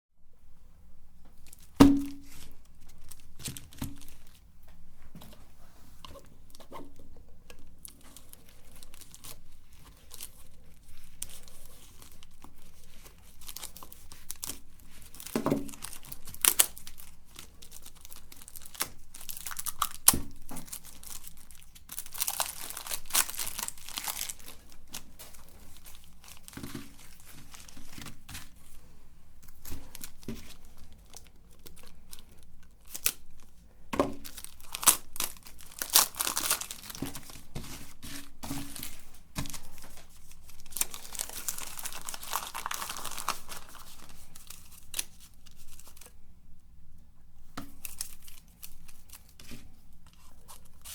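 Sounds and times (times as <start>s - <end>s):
plastic wrappers crinkling and tearing: 1.4s - 4.6s, 7.5s - 28.8s, 29.4s - 46.2s, 47.6s - 50.9s.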